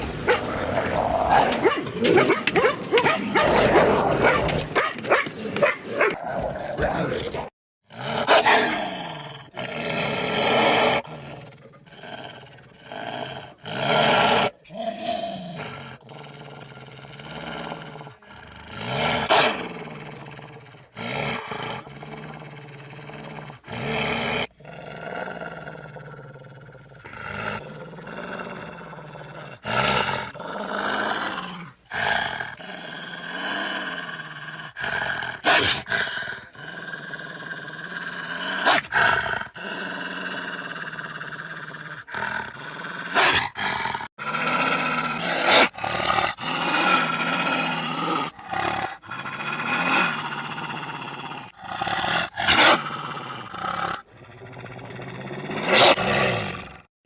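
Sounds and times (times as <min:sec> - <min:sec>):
dog-like growls: 0:00.0 - 0:56.9
deep animal roars: 0:06.1 - 0:56.9.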